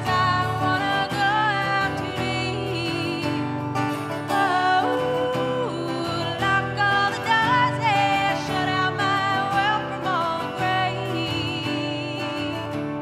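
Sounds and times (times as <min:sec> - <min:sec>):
strummed acoustic guitar: 0:00.0 - 0:13.0
woman singing: 0:00.0 - 0:13.0.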